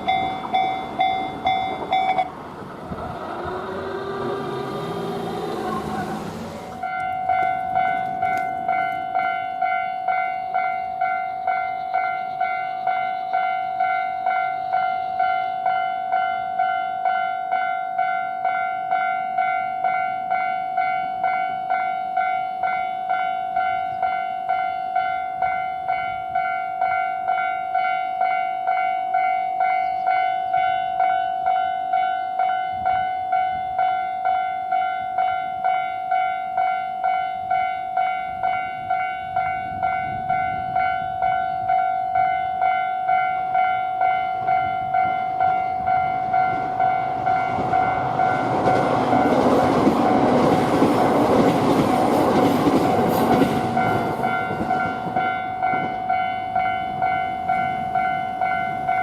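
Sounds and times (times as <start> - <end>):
level-crossing warning bell: 0.0 - 59.0.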